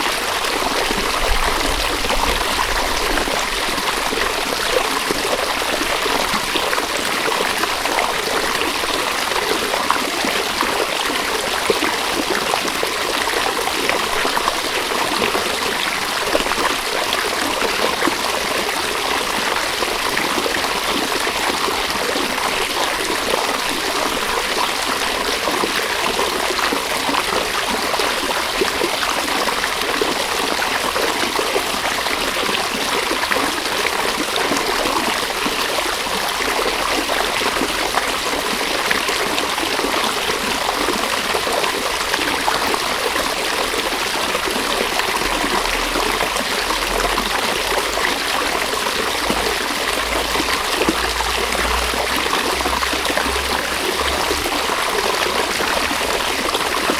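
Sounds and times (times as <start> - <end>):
stream flowing over stones: 0.0 - 56.9.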